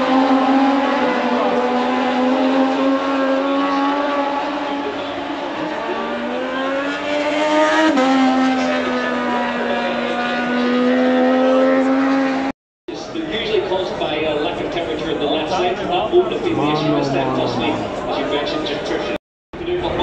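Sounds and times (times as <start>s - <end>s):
racing motorcycle engines: 0.0s - 12.5s, 15.2s - 19.2s.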